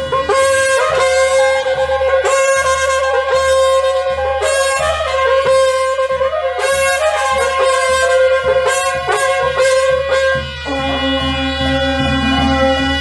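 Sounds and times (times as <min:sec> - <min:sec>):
drum strokes: 0:00.0 - 0:13.0
held drone: 0:00.0 - 0:13.0
wind instrument melody: 0:00.0 - 0:13.0.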